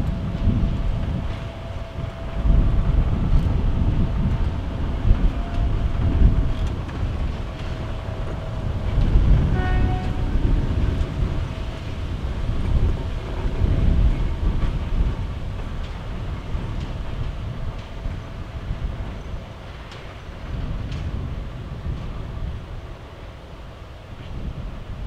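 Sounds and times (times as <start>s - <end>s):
diesel locomotive engine rumbling: 0.0s - 25.0s.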